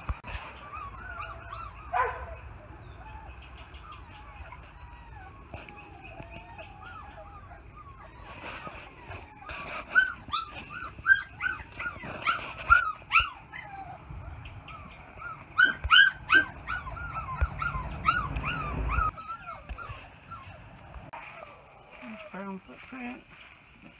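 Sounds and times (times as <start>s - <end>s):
puppies whimpering and yipping: 0.0s - 23.2s.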